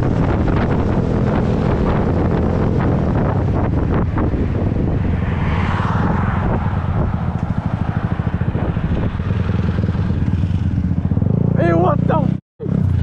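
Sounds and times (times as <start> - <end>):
motorcycle engine at low revs: 0.0 - 5.2, 5.8 - 13.0
wind rushing over microphone: 0.0 - 11.6.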